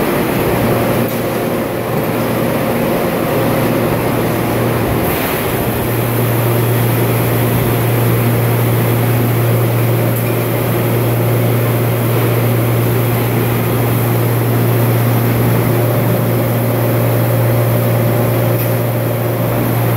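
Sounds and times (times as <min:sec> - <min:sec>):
rolling mill droning: 0:00.0 - 0:19.9.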